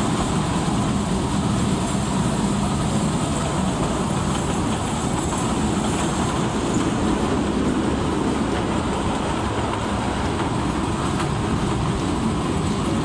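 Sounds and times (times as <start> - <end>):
train wheels and carriage running: 0.0 - 13.0.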